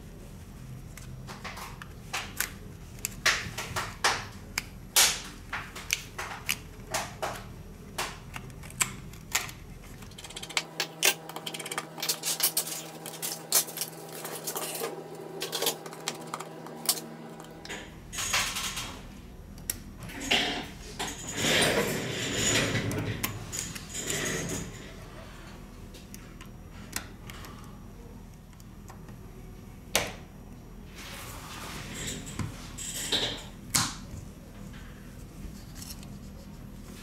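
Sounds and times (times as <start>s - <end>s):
steady electrical hum: 0.0s - 37.0s.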